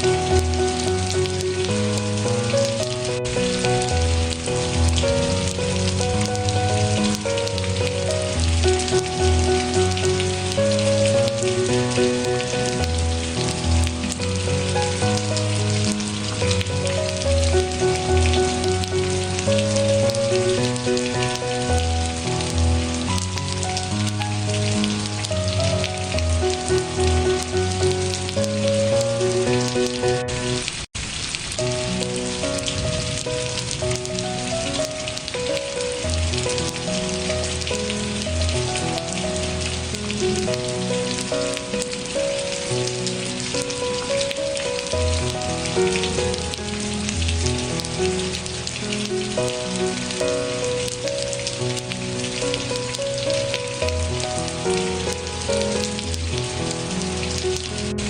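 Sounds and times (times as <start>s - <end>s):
soft instrumental music: 0.0s - 30.8s, 31.5s - 58.0s
steady rain hiss: 0.0s - 58.0s.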